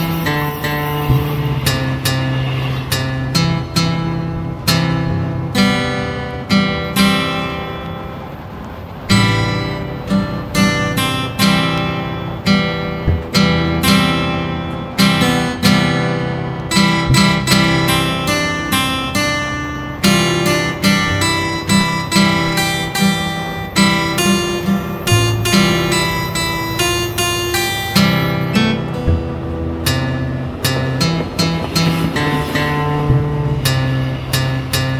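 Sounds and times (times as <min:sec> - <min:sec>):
acoustic guitar strumming: 0:00.0 - 0:34.9.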